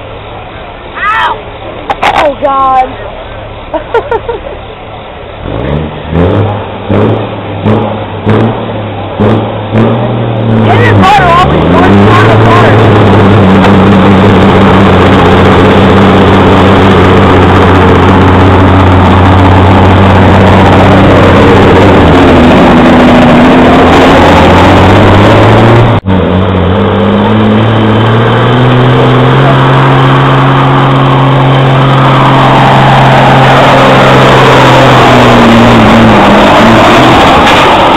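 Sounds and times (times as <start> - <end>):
diesel truck engine under load: 0.0 - 37.9.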